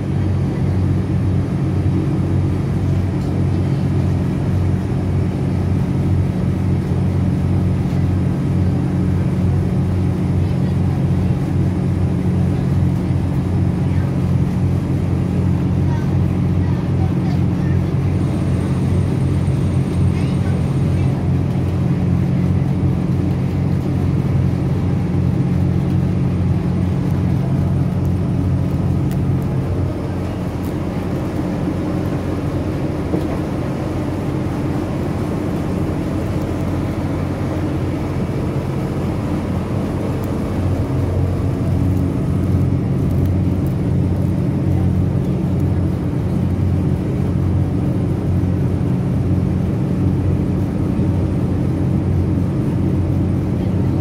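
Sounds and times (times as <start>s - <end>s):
train engine and running drone: 0.0s - 54.0s.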